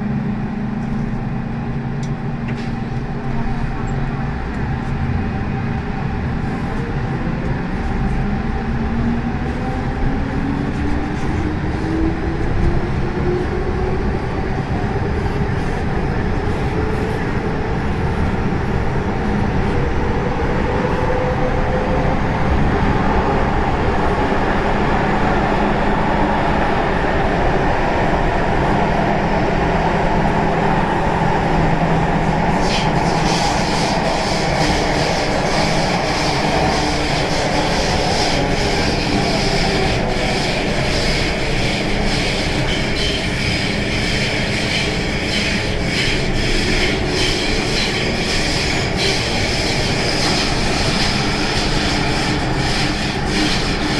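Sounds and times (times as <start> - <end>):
rumble of wheels on rail: 0.0 - 53.9.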